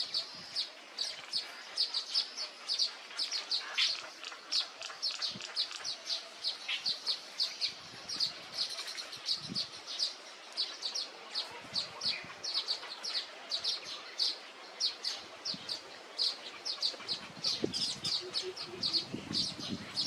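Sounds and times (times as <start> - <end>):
small songbird chirping: 0.0 - 20.0.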